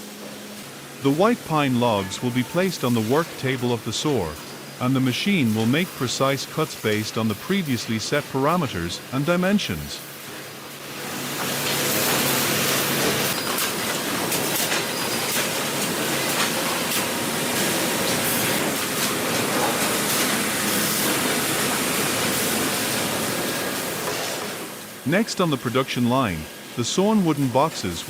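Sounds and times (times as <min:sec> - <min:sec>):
sawmill machinery running: 0:00.8 - 0:28.0.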